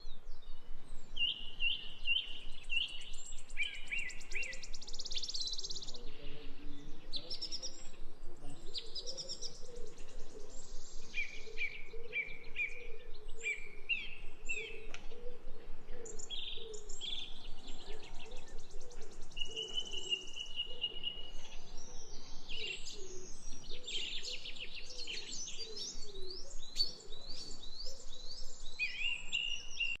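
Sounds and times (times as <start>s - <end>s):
birds chirping and trilling: 0.0s - 30.0s
lower repeated bird notes: 0.0s - 30.0s.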